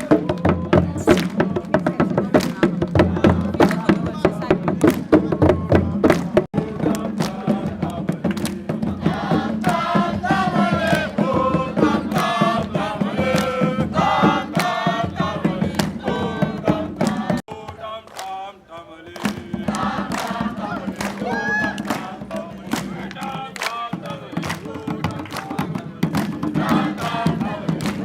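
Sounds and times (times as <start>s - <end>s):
steady drum beat: 0.0s - 18.1s, 19.1s - 28.0s
crowd singing and chanting: 0.0s - 28.0s.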